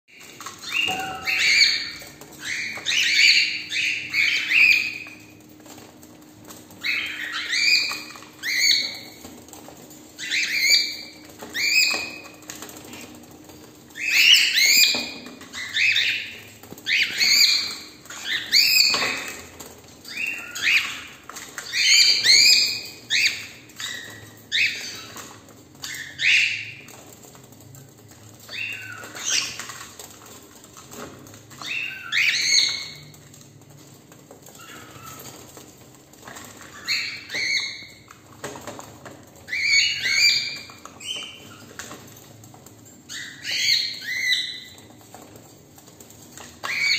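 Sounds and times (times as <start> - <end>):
cockatiels calling: 0.1 - 46.9.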